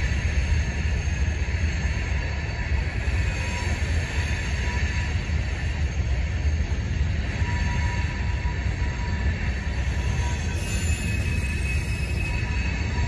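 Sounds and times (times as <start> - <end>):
faint thin squeal: 0.0 - 6.2, 7.2 - 13.0
freight train rumbling: 0.0 - 13.0.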